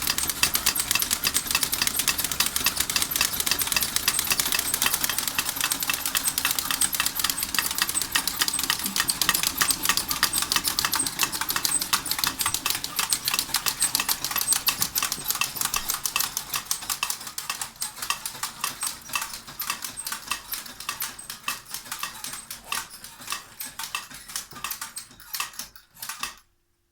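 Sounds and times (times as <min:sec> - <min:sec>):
model steam engine clattering: 0:00.0 - 0:26.4.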